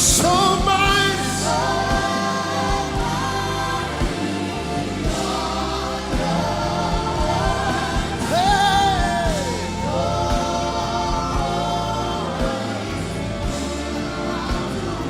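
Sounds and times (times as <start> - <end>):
band with steady drum beat: 0.0 - 15.0
choir singing held notes: 0.0 - 15.0.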